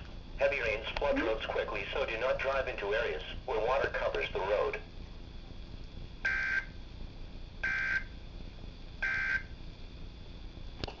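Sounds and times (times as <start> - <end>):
faint radio hiss: 0.0 - 11.0.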